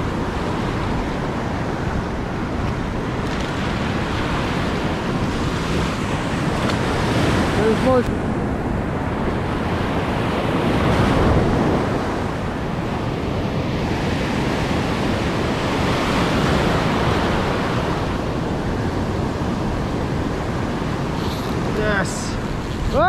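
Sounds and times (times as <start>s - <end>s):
ocean surf breaking on sand: 0.0s - 23.0s
wind buffeting microphone: 0.0s - 23.0s.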